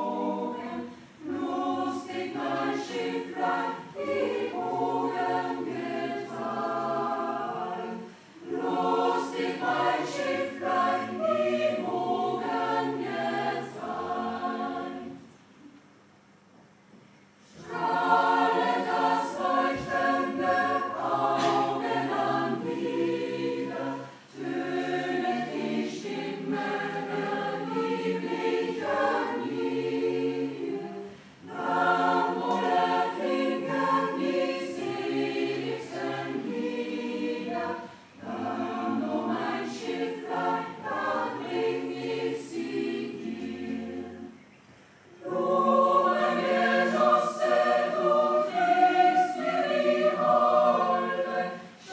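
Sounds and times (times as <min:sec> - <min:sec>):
mixed choir singing: 0:00.0 - 0:15.3, 0:17.4 - 0:44.5, 0:45.1 - 0:51.9.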